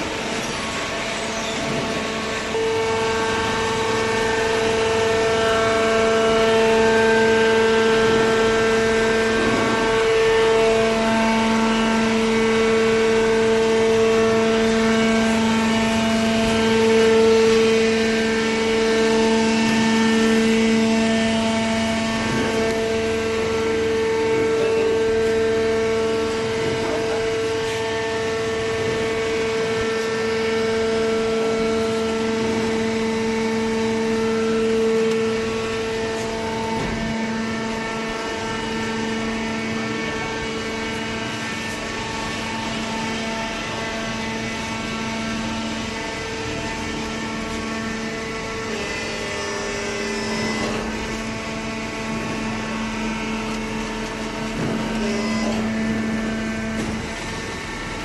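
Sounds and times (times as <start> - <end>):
hydraulic baler motor whine: 0.0 - 58.0.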